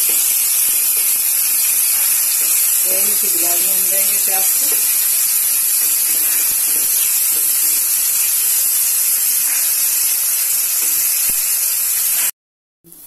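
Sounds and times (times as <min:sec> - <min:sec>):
onions sizzling in hot oil: 0:00.0 - 0:12.3
spatula stirring: 0:00.0 - 0:12.3.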